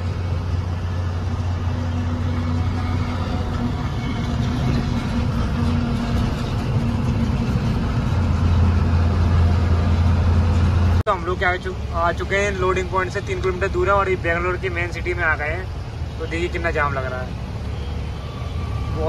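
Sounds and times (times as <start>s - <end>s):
truck engine running: 0.0s - 19.0s
tyre and road noise: 0.0s - 19.0s.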